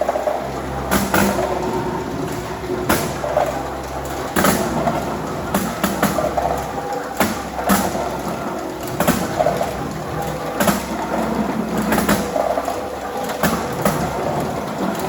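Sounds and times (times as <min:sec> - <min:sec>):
machine hum and rattle: 0:00.0 - 0:15.0
sharp clicks and clatters: 0:00.0 - 0:15.0.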